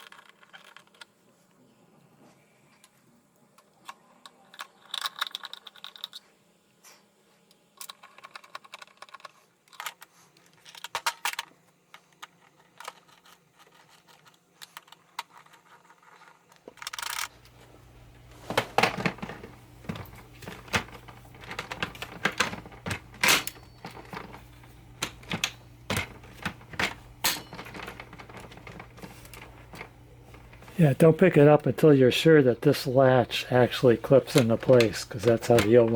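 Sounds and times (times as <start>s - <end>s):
plastic parts clicking and rattling: 0.0s - 1.2s, 3.6s - 6.2s, 7.8s - 35.9s
faint low hum: 0.0s - 35.9s.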